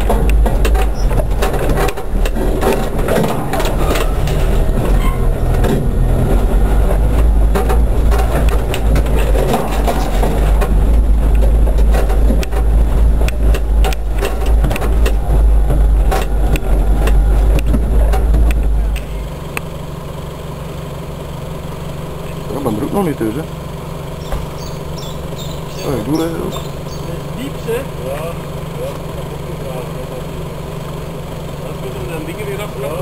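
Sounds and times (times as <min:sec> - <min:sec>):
vehicle engine low rumble: 0:00.0 - 0:33.0
vehicle knocks and rattles: 0:00.0 - 0:33.0.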